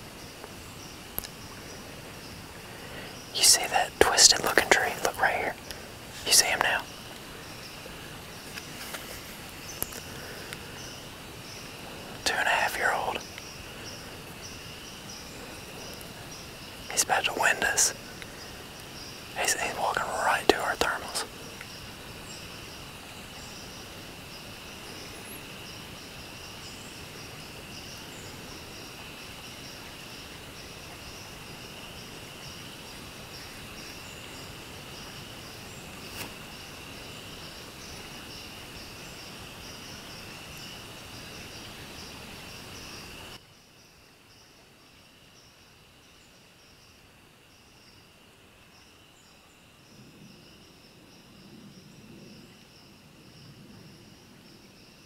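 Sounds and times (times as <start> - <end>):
background hiss: 0.0 - 55.0
high insect chorus trilling: 0.0 - 55.0.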